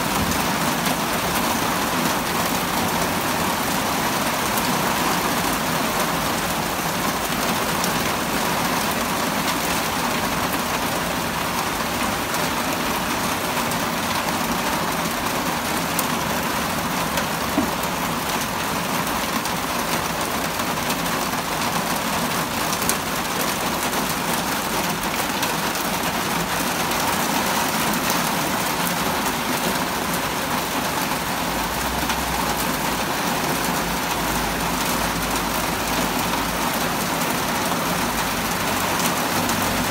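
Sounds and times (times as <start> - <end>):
heavy rain on pavement and cars: 0.0 - 39.9.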